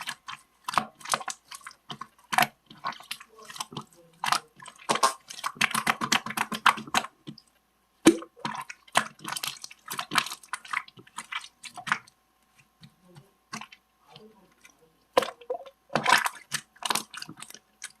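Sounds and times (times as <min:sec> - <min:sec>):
wet squishing and clicking: 0:00.0 - 0:18.0.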